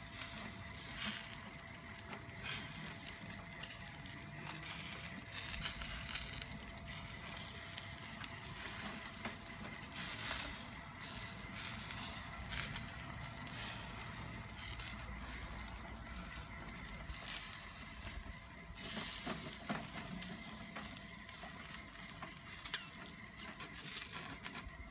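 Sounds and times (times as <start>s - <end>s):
chicken sizzling over charcoal: 0.0s - 24.9s.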